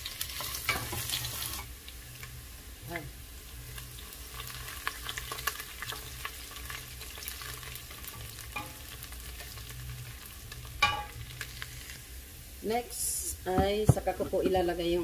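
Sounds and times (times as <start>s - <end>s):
ginger sizzling in oil: 0.0s - 15.0s.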